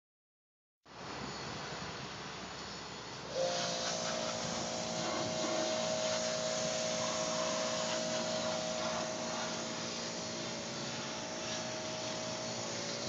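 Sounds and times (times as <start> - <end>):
whirring machine with whine: 0.9 - 13.0.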